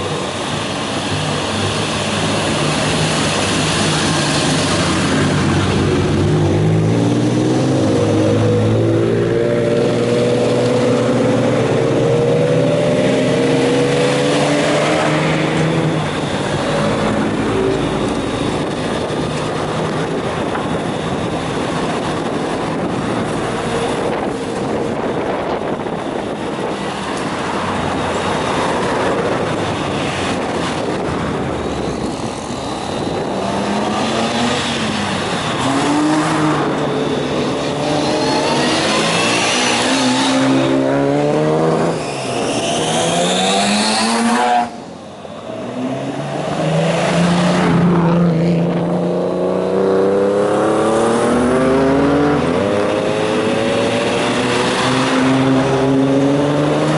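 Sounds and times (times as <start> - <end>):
car engines revving: 0.0 - 56.9.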